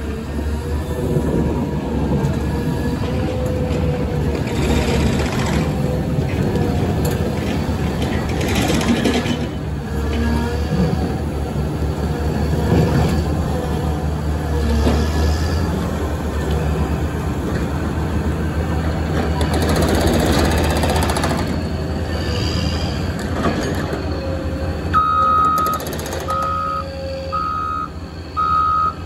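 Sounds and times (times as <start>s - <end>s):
motor grader diesel engine: 0.0s - 29.0s.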